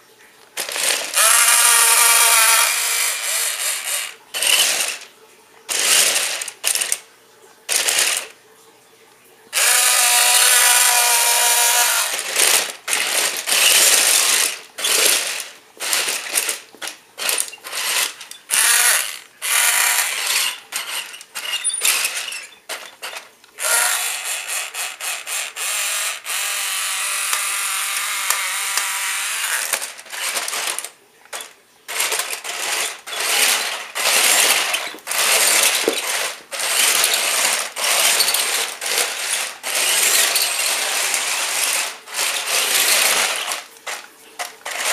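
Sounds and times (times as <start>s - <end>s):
toy electric motors and tracks: 0.6s - 5.1s, 5.7s - 7.1s, 7.7s - 8.4s, 9.5s - 44.9s.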